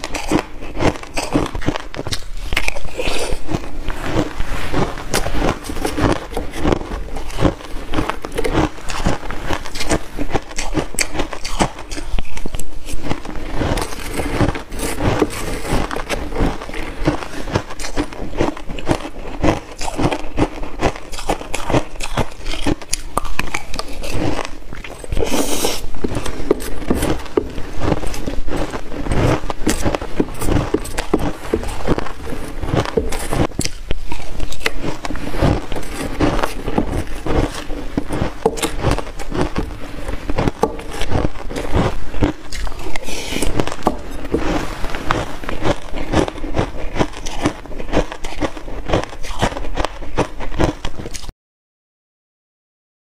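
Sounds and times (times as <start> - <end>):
crunching ice: 0.0 - 51.3.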